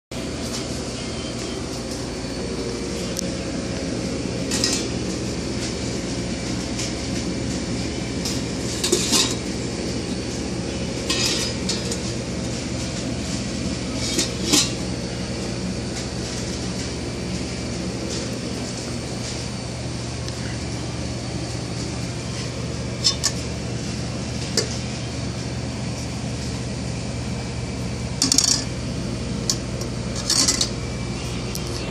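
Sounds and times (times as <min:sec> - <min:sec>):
steady hum: 0:00.1 - 0:31.9.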